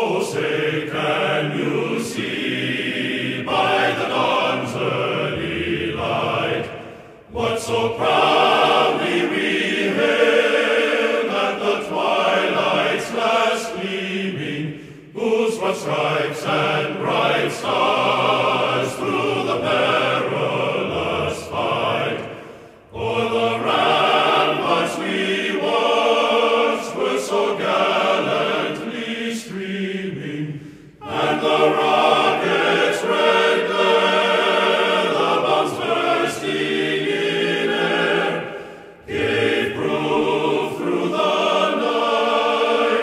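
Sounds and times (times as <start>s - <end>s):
choral singing: 0.0s - 43.0s.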